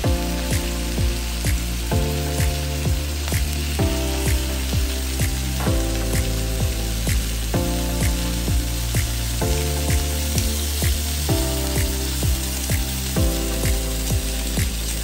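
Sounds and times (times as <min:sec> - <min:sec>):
background music with bass: 0:00.0 - 0:15.0
food sizzling in a wok: 0:00.0 - 0:15.0.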